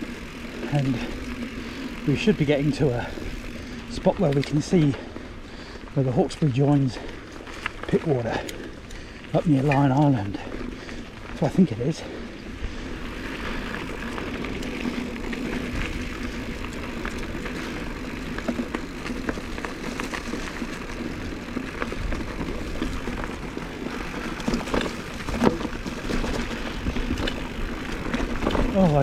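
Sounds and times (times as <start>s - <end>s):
bike clicks and rattles: 0.0s - 29.0s
bike tyres rolling on dirt: 0.0s - 29.0s.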